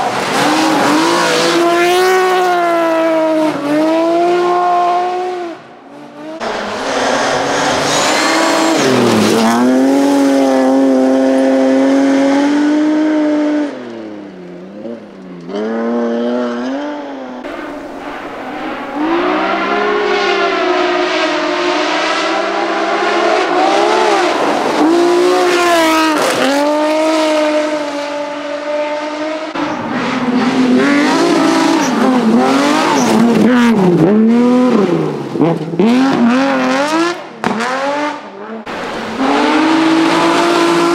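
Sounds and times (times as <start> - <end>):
rally car engines at full throttle: 0.0 - 40.9.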